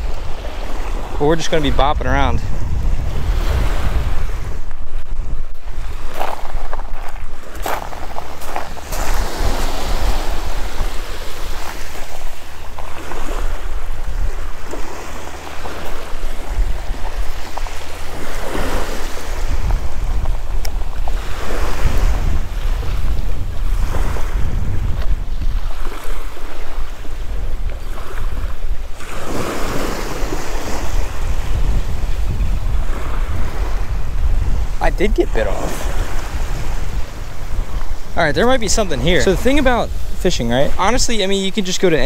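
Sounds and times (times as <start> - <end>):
waves washing onto gravel beach: 0.0 - 42.0
wind buffeting microphone: 0.0 - 42.0.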